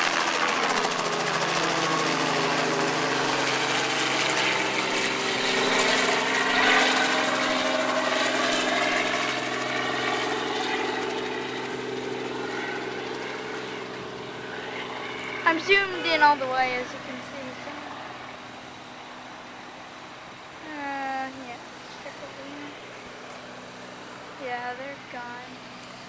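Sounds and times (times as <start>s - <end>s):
helicopter engine and rotor: 0.0s - 26.0s.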